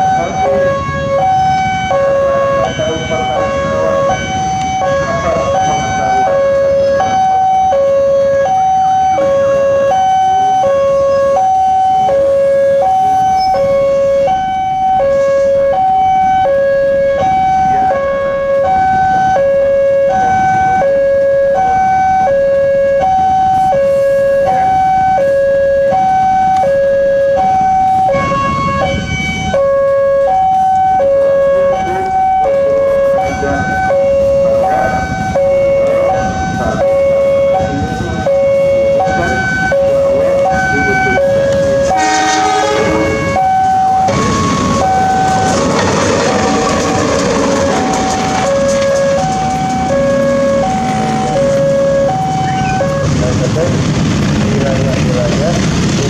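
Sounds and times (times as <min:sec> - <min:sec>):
two-tone crossing alarm: 0:00.0 - 0:53.7.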